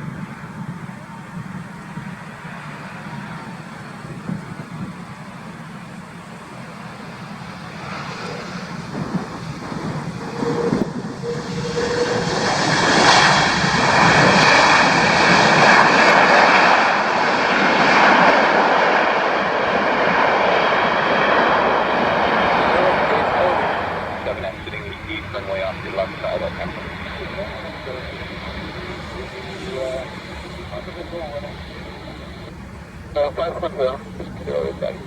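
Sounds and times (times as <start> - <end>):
steady high whine: 0.0 - 17.8, 18.4 - 35.0
jet airliner engines: 0.0 - 35.0.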